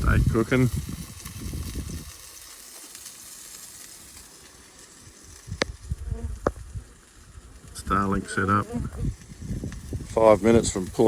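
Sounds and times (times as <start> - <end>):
steak sizzling: 0.0 - 11.0.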